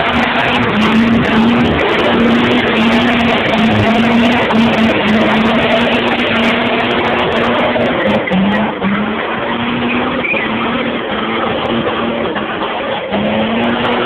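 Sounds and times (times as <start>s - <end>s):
car engine at high revs: 0.0s - 14.0s
tyres spinning on road: 0.0s - 14.0s.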